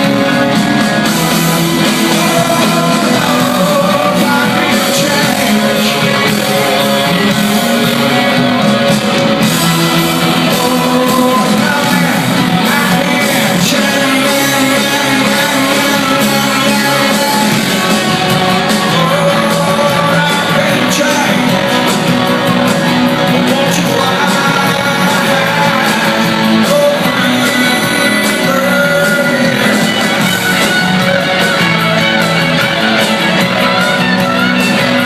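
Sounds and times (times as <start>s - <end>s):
rock music with electric guitar: 0.0s - 35.0s.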